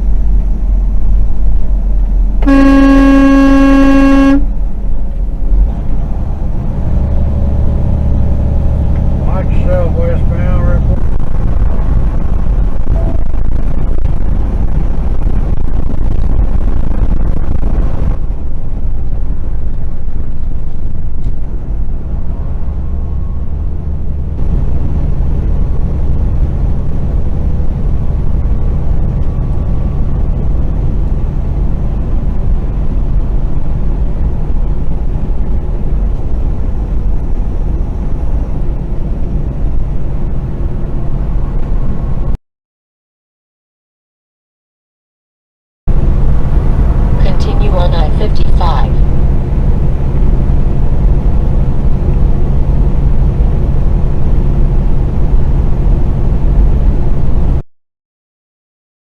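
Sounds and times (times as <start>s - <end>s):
road noise: 0.0s - 42.4s, 45.9s - 57.6s
vehicle engine rumble: 0.0s - 42.4s, 45.9s - 57.6s.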